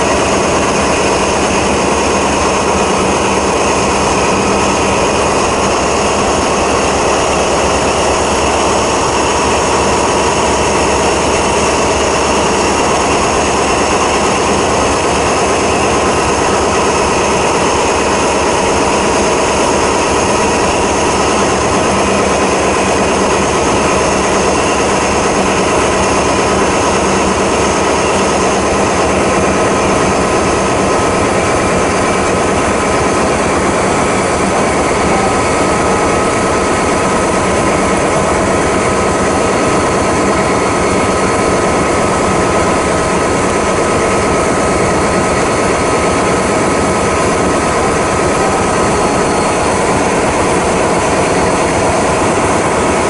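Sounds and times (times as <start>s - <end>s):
diesel locomotive engine drone: 0.0s - 53.0s
high whine: 0.0s - 53.0s.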